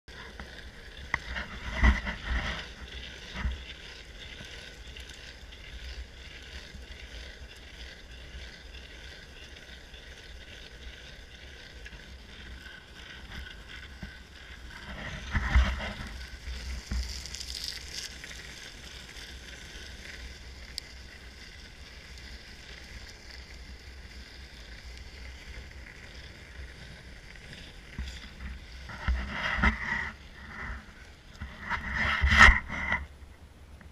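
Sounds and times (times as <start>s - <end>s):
skateboard wheels rolling on asphalt: 0.0s - 33.9s
wheels knocking over bumps: 0.1s - 31.6s.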